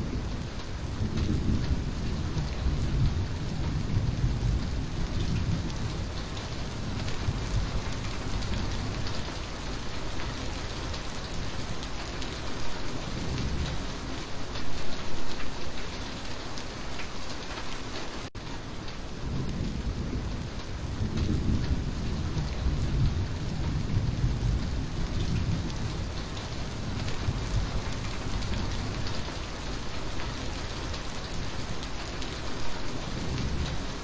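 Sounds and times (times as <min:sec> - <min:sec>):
low roll of thunder: 0:00.0 - 0:14.3, 0:19.1 - 0:34.0
heavy rain falling: 0:00.0 - 0:34.0.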